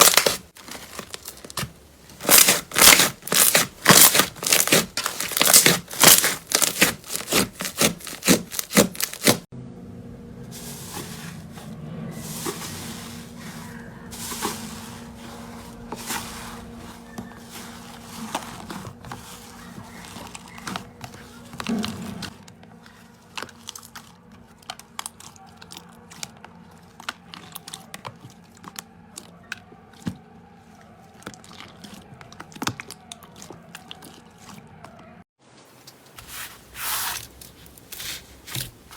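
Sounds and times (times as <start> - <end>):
hands handling slime: 0.0 - 9.4, 10.6 - 35.0, 35.8 - 38.9.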